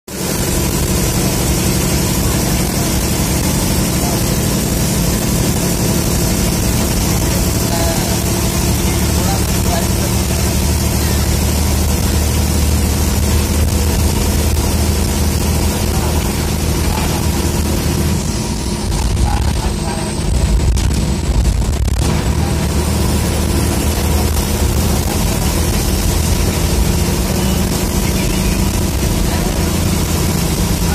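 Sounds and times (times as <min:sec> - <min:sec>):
bus diesel engine running: 0:00.1 - 0:30.9
road and cabin noise: 0:00.1 - 0:30.9.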